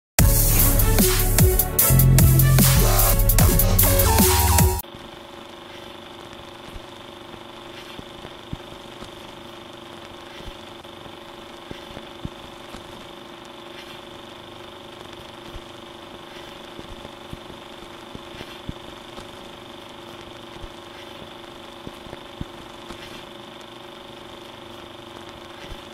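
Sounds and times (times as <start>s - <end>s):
film soundtrack hiss and hum: 0.2s - 25.9s
crackles and pops: 4.8s - 25.9s.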